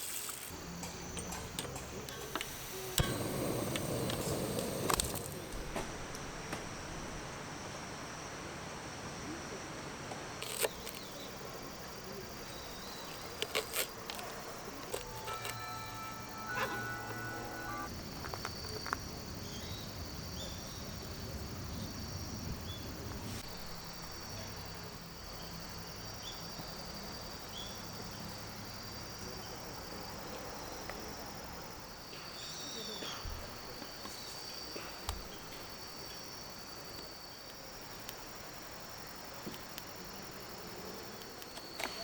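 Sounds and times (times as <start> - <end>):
crickets and insects chirping: 0.0 - 42.0.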